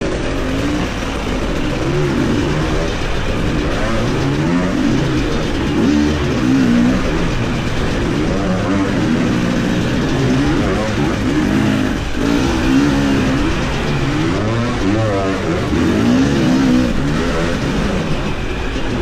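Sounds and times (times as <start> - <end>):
motorcycle engine revving: 0.0 - 19.0
wind and road noise: 0.0 - 19.0.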